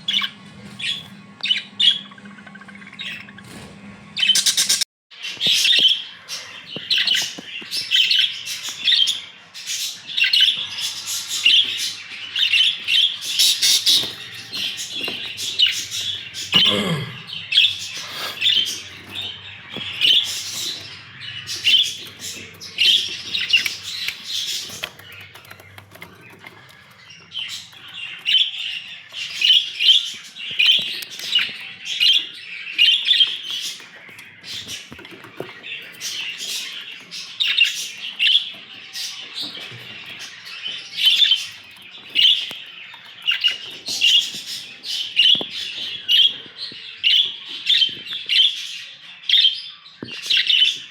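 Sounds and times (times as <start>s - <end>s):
budgerigars chirping and chattering: 0.0s - 50.9s.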